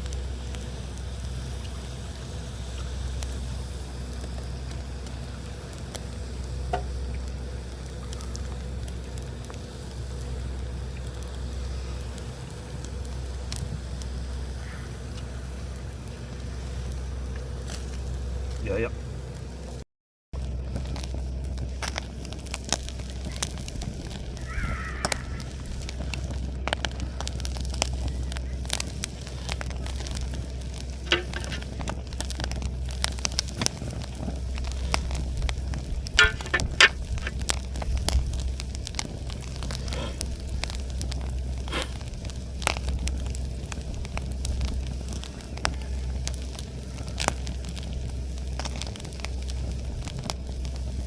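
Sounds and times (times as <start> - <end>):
campfire crackling and popping: 0.0 - 19.8, 20.4 - 51.0
steady low drone: 0.0 - 19.8, 20.4 - 51.0
steady low hum: 0.0 - 19.8, 20.4 - 51.0.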